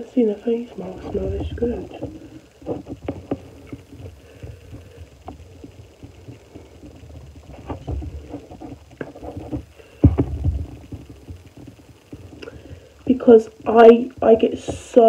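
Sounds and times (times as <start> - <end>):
faint clicks and taps: 0.7 - 15.0
low rumble: 0.8 - 13.8.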